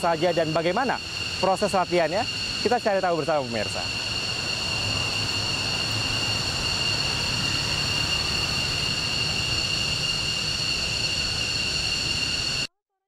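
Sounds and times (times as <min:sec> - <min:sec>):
jet engines whining: 0:00.0 - 0:12.7.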